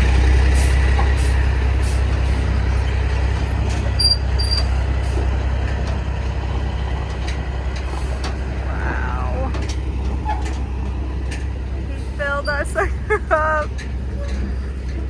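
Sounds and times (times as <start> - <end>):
dump truck engine droning: 0.0 - 15.0.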